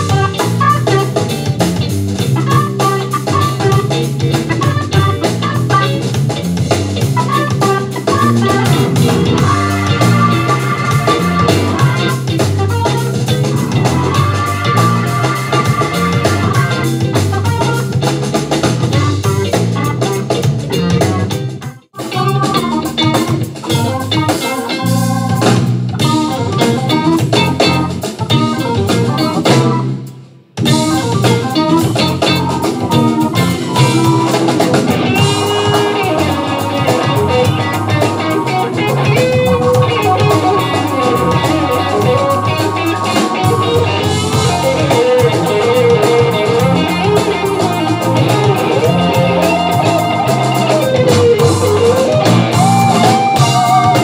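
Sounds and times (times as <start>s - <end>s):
electric guitar: 0.0s - 54.0s
live funk band playing: 0.0s - 54.0s.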